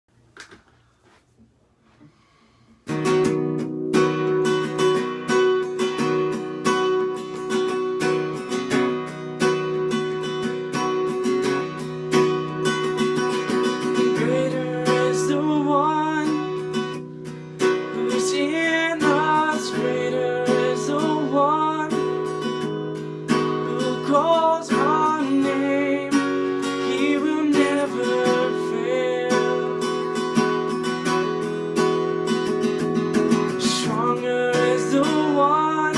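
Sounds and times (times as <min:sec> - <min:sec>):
acoustic guitar strummed: 0:02.1 - 0:35.9.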